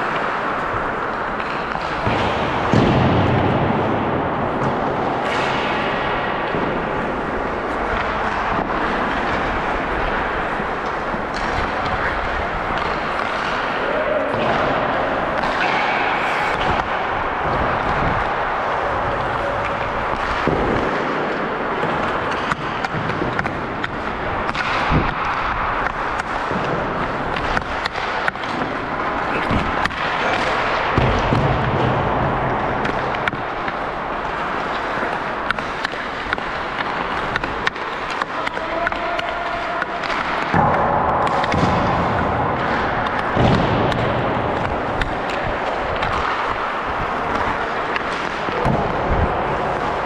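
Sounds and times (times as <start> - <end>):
pucks and sticks clacking: 0.0 - 50.0
skates scraping on ice: 0.0 - 50.0.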